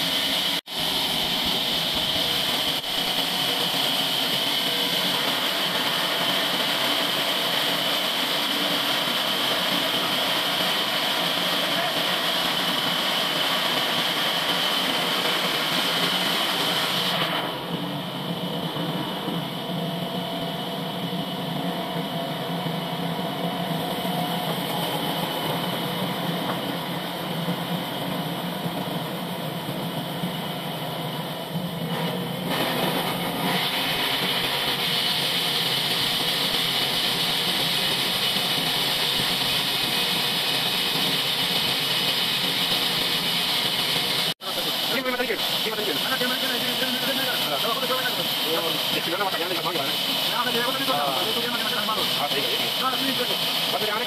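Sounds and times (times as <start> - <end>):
band sawmill running: 0.0 - 54.0
high hissing saw cutting: 0.0 - 54.0.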